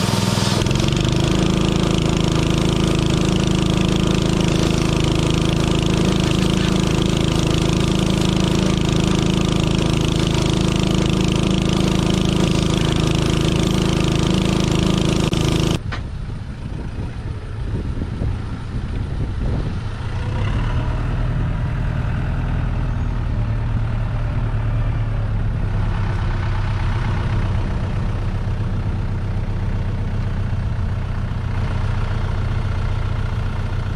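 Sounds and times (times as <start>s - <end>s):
engine idling low: 0.0s - 20.2s, 20.8s - 33.9s
tractor engine running: 0.0s - 33.9s.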